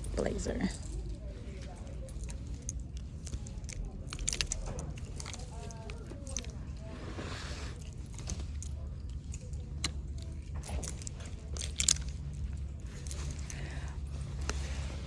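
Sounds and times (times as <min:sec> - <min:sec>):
clothes hangers clicking and scraping: 0:00.0 - 0:15.0
steady low hum: 0:00.0 - 0:15.0.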